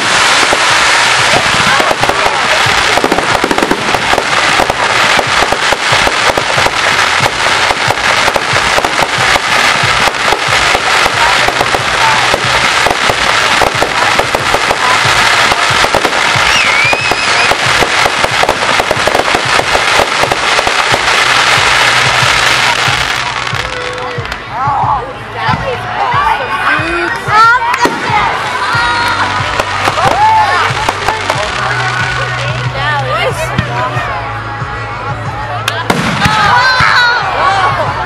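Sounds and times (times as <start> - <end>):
fireworks crackling and banging: 0.0 - 26.3, 27.1 - 34.0, 35.7 - 38.0.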